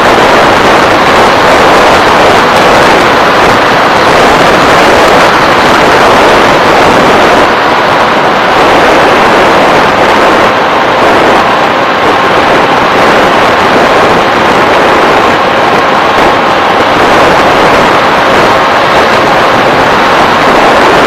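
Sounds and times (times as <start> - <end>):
faint motor whine: 0.0 - 21.0
propeller and wind rush: 0.0 - 21.0.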